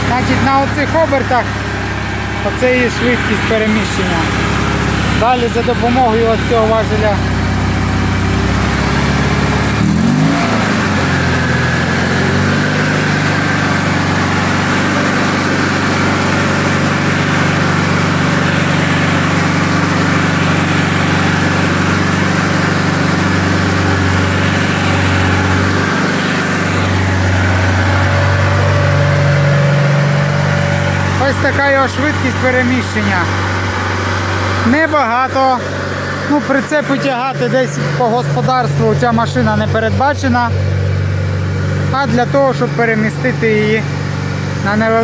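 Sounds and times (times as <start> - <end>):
small engine running under load: 0.0 - 45.0.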